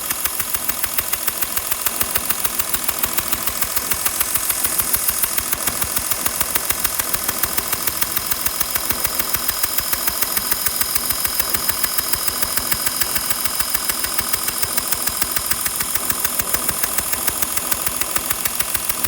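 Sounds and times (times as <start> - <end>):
sharp regular ticking: 0.0 - 19.0.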